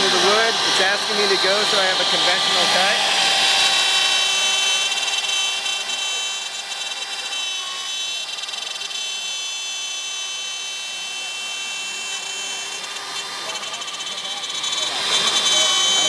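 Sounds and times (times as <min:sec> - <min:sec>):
router spindle whining: 0:00.0 - 0:16.0.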